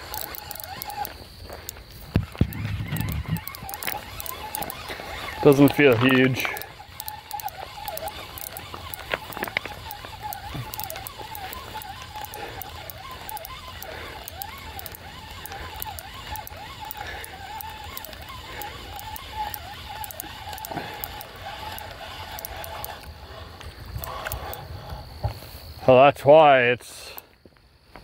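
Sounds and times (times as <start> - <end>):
fishing reel cranking: 0.0 - 24.9.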